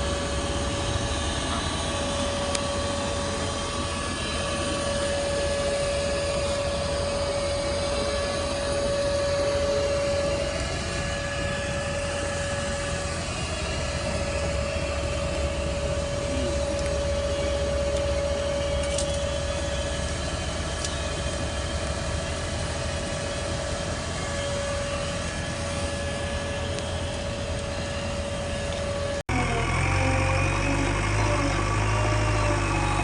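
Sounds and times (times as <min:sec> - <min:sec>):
diesel engine rumble with whine: 0:00.0 - 0:33.0.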